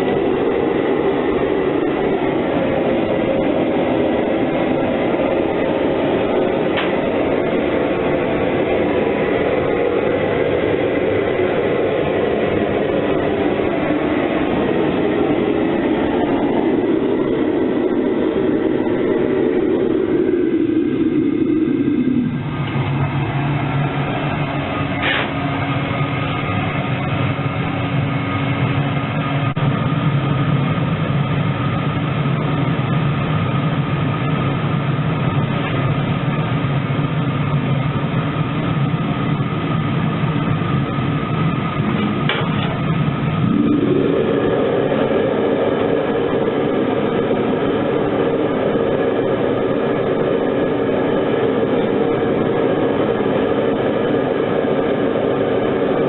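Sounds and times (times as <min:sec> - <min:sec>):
furnace burner rushing: 0:00.0 - 0:56.0
low hum: 0:00.0 - 0:56.0.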